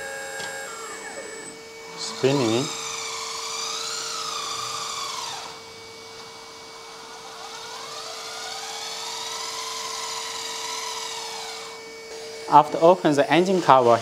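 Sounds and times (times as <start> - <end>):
electric motor whining: 0.0 - 14.0
steady hum: 0.0 - 14.0.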